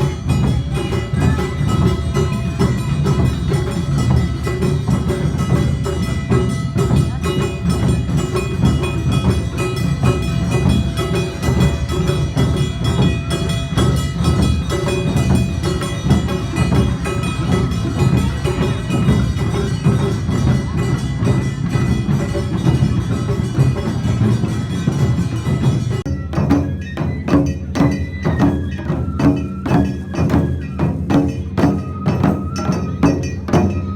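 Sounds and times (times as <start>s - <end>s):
ringing metallic percussion: 0.0s - 33.9s
taiko drums beating: 0.0s - 33.9s.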